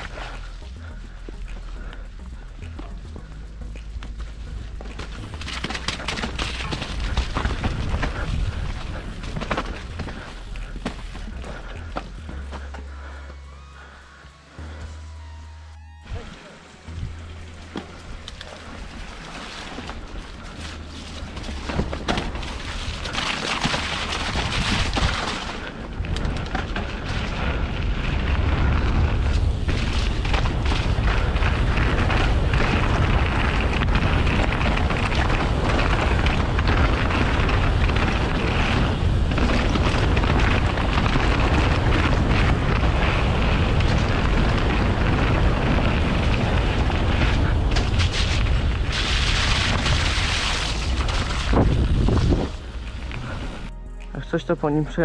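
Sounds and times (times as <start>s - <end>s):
wind buffeting microphone: 0.0s - 12.5s, 16.9s - 53.8s.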